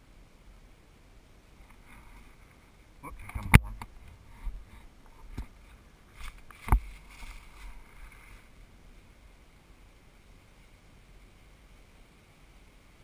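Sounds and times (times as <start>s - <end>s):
faint rustling: 1.5s - 13.0s.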